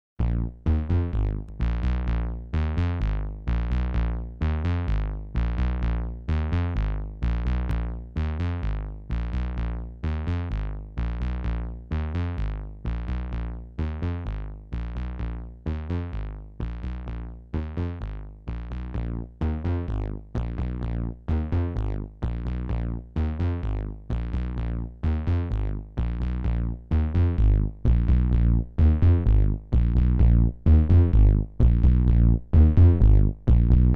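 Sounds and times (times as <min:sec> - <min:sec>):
distorted bass synthesizer notes: 0:00.2 - 0:33.9.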